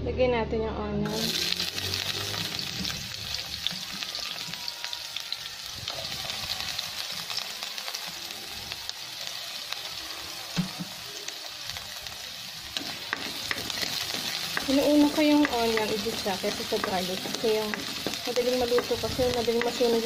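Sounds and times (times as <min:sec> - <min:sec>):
onion sizzling in hot oil: 0:01.0 - 0:20.0.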